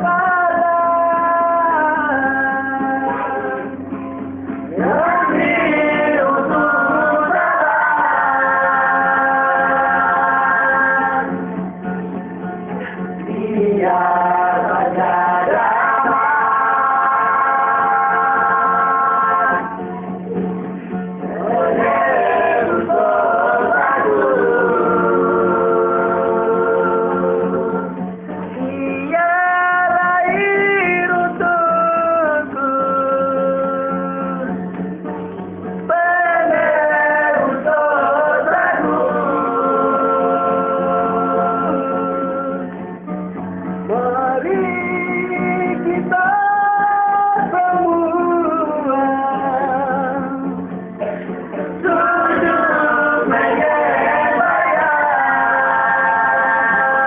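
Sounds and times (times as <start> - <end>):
singing christian song: 0.0 - 11.7, 12.8 - 20.0, 21.2 - 34.6, 35.8 - 43.1, 43.8 - 57.0
instrumental accompaniment: 0.0 - 57.0.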